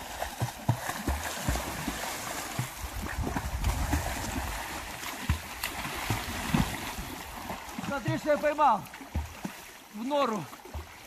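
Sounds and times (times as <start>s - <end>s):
water splashing from swimming: 0.0s - 11.0s.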